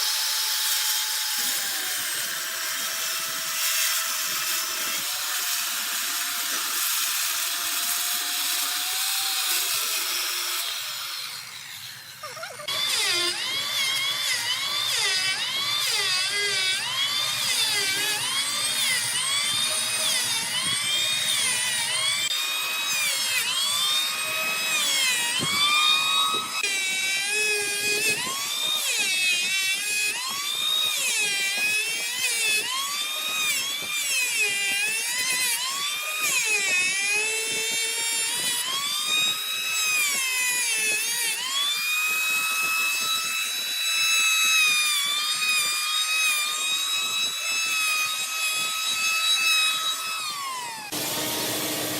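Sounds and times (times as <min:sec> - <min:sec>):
power tool whining into wood: 0:00.0 - 0:51.9.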